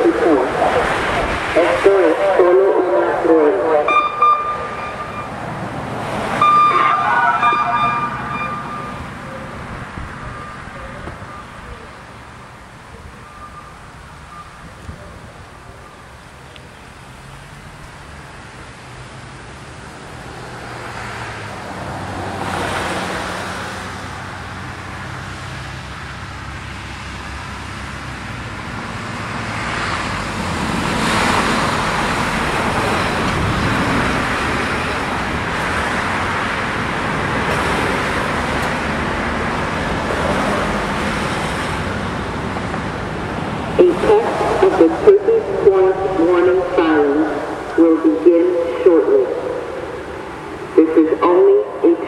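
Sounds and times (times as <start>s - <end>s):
vehicles passing by: 0.0s - 52.0s.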